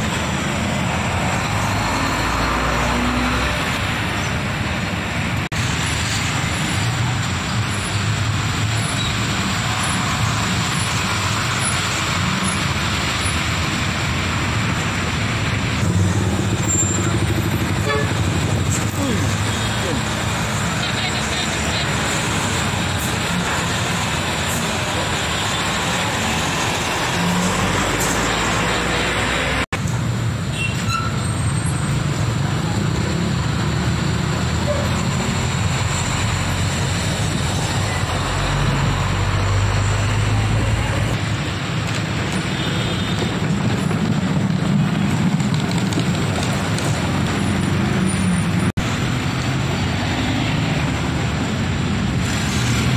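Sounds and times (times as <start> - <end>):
diesel truck engines rumbling: 0.0 - 52.9
tyre and traffic noise: 0.0 - 52.9.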